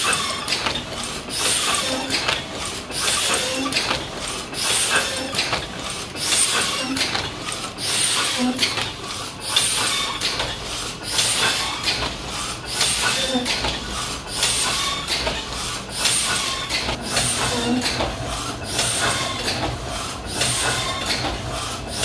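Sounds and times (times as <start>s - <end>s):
printing press clattering: 0.0s - 22.0s.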